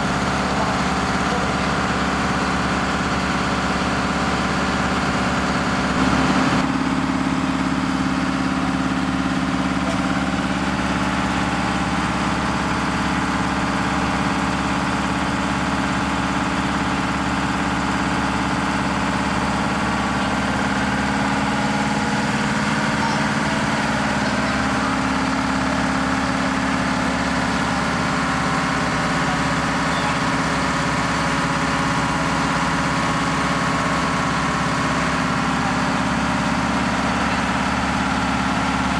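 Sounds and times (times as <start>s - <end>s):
fire engine running under load: 0.0s - 38.9s.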